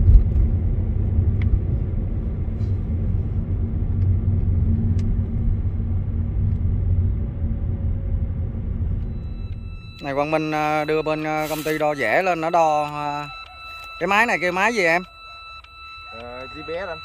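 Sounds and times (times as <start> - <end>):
even hum: 0.0 - 14.7
vehicle engine and road noise: 0.0 - 17.0.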